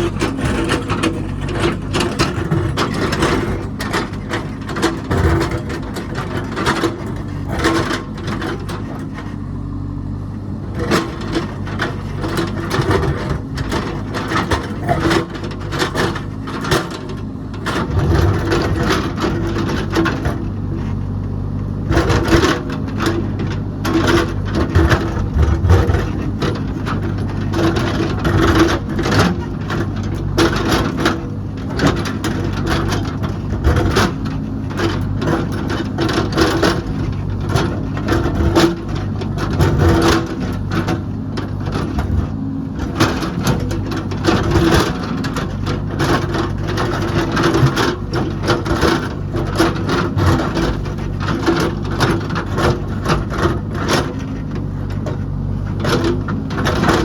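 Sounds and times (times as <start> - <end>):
metal clanks and knocks: 0.0 - 9.4, 10.6 - 57.0
heavy machine engine running: 0.0 - 57.0.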